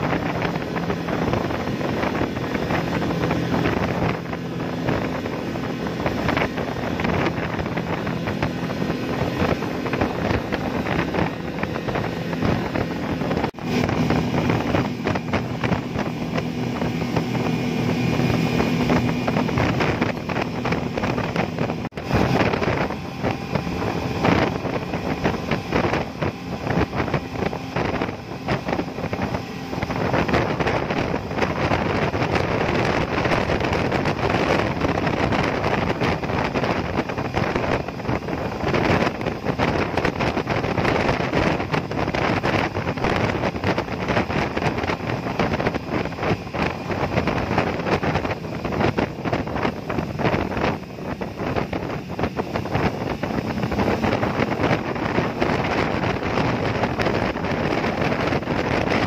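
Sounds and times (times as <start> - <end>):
outboard motors drone: 0.0 - 59.0
rush of spray: 0.0 - 59.0
wind on microphone: 0.0 - 59.0.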